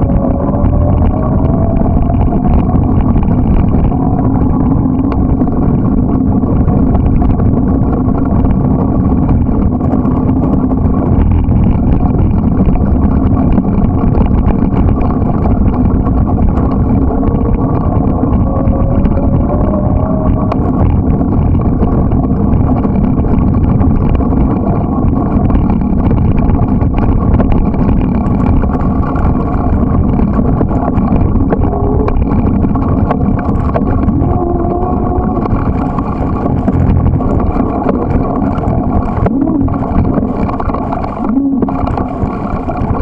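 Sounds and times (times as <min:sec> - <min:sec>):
bicycle tyres rolling over gravel: 0:00.0 - 0:43.0
wind on microphone: 0:00.0 - 0:43.0.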